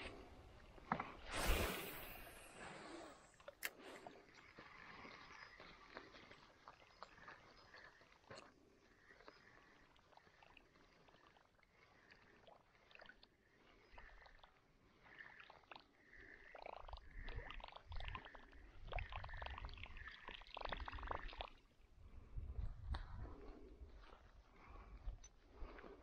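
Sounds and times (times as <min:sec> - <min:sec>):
soft water sounds: 0:00.0 - 0:26.0.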